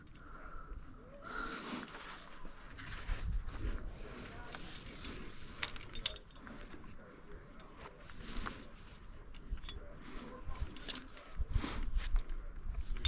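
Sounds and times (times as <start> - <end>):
metal carabiners clinking: 0.0 - 1.1, 1.8 - 13.0
rustle of gear and rope: 0.0 - 13.0.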